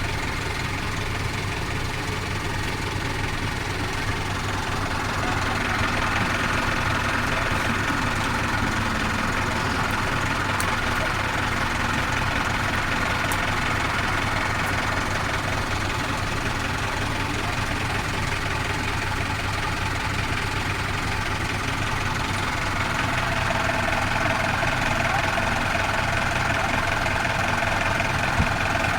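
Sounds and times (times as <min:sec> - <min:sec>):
off-road vehicle engine running: 0:00.0 - 0:28.9.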